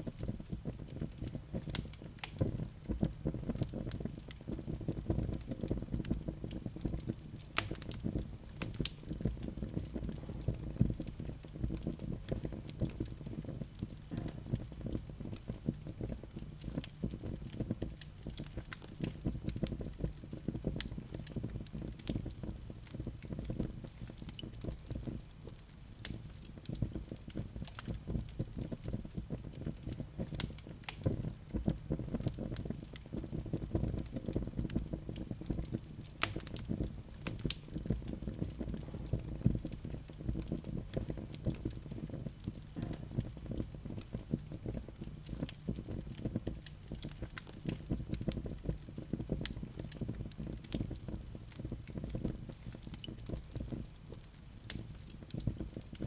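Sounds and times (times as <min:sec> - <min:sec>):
low rumble of flames: 0:00.0 - 0:56.0
logs crackling and popping: 0:00.1 - 0:56.0.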